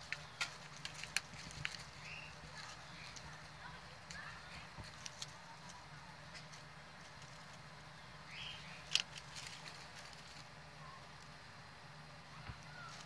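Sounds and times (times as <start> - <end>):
rustling dry leaves and grass: 0.0 - 13.0.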